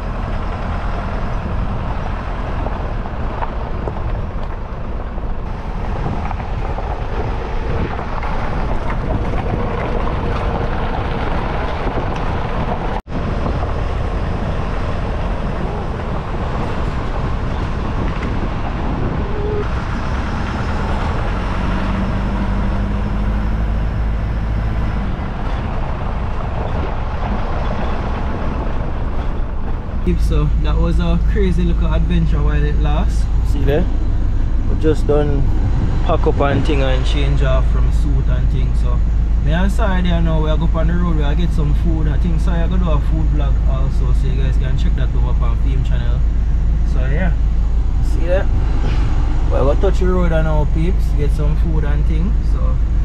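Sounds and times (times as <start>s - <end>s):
car engine and tyre noise: 0.0s - 53.0s
wind rumble on microphone: 0.0s - 53.0s.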